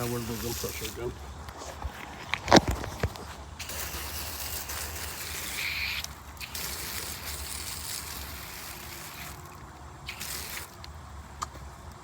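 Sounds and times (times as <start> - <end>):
garden hose spraying water: 0.0 - 1.5, 3.3 - 12.0.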